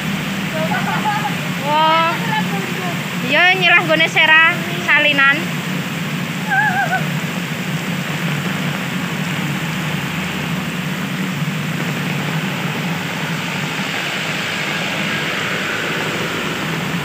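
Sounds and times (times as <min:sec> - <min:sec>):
heavy rain on a road: 0:00.0 - 0:17.0
truck engine approaching: 0:00.0 - 0:17.0.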